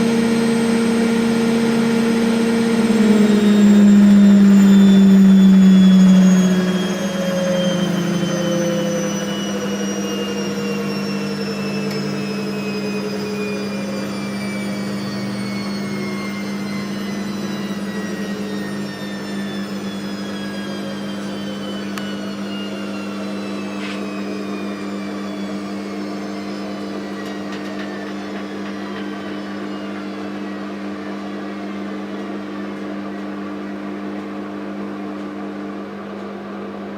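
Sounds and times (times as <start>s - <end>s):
washing machine spinning: 0.0s - 36.9s.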